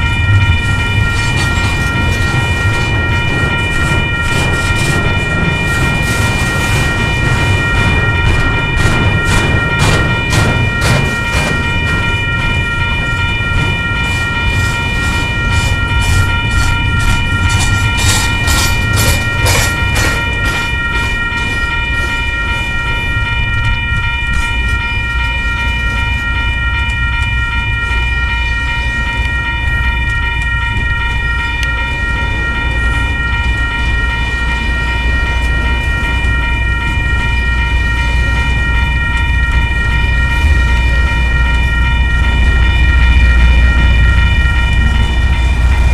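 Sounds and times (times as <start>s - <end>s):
train wheels clickety-clack: 0.0s - 41.4s
diesel locomotive rumble: 0.0s - 45.9s
steady high-pitched whine: 0.0s - 45.9s.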